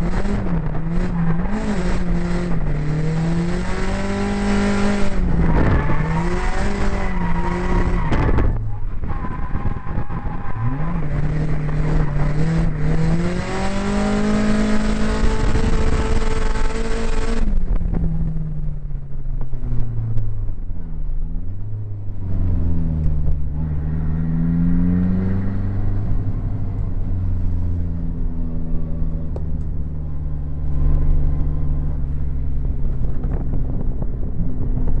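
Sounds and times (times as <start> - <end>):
car engine revving: 0.0 - 18.3, 22.0 - 35.0.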